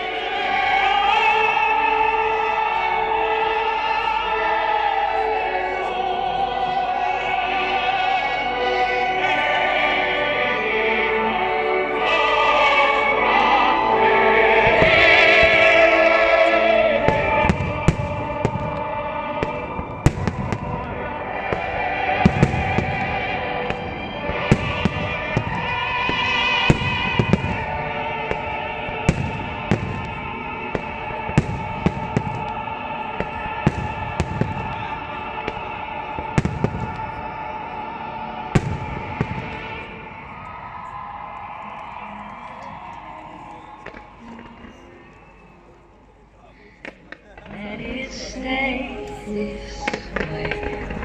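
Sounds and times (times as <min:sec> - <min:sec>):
music with singing voice: 0:00.0 - 0:40.9, 0:41.6 - 0:51.0.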